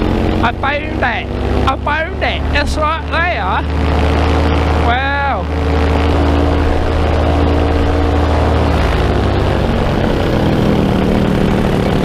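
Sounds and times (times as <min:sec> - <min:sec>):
paramotor engine and propeller: 0:00.0 - 0:12.0
rushing noise: 0:00.0 - 0:12.0.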